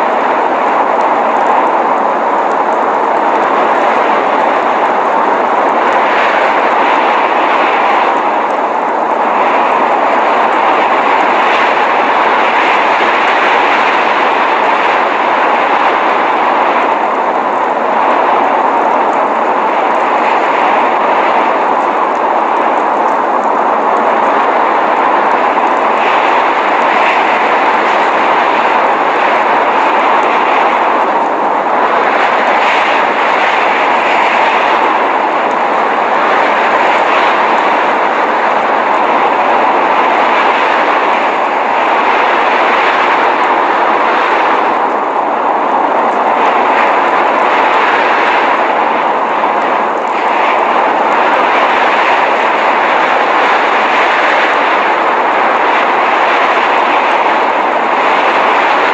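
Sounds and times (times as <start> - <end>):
snowstorm wind and blowing snow: 0.0 - 58.9.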